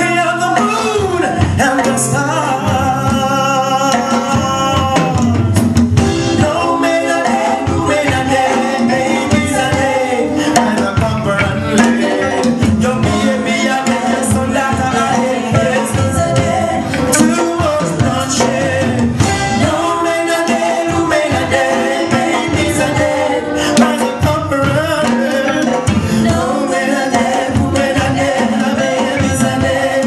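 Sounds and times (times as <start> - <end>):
band music with singing: 0.0 - 30.0
drums: 0.0 - 30.0.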